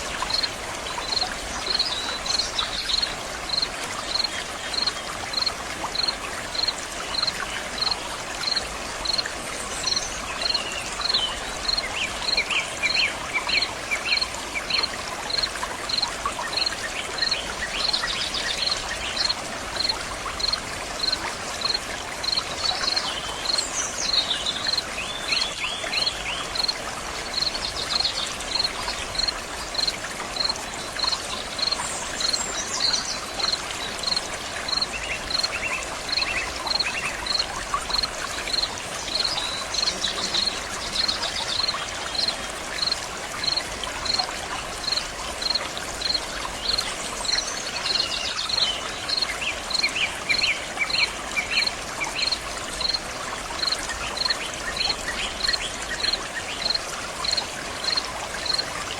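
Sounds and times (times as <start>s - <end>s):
stream water flowing: 0.0s - 58.9s
insect chirping: 0.3s - 12.4s, 14.1s - 25.4s, 26.5s - 35.5s, 36.1s - 44.2s, 44.8s - 48.0s, 49.1s - 49.9s, 52.8s - 53.0s, 53.6s - 58.6s.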